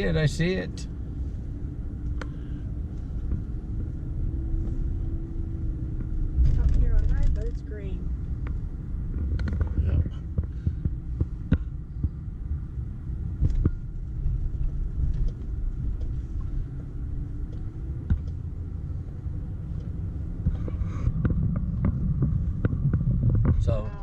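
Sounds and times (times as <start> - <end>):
car cabin engine rumble: 0.0 - 24.0.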